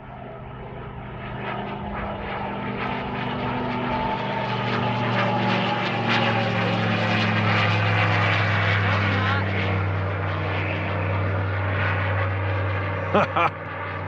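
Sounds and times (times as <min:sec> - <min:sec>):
propeller airplane engine droning: 0:00.0 - 0:14.0.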